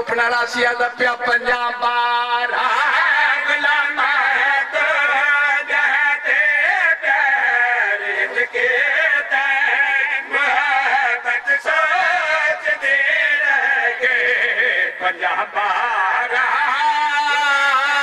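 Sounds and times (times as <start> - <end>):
men singing unaccompanied: 0.3 - 18.0.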